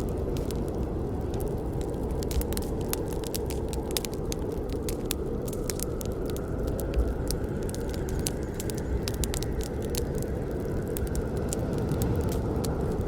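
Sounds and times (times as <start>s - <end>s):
campfire pops and crackles: 0.0s - 13.0s
low rush of flames: 0.0s - 13.0s.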